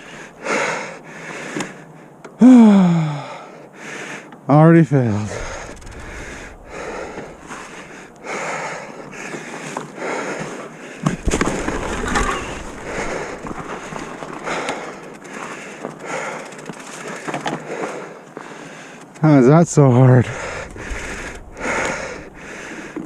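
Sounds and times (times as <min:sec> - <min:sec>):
person breathing hard: 0:00.0 - 0:04.3, 0:05.3 - 0:11.2, 0:12.4 - 0:19.0, 0:20.2 - 0:23.0.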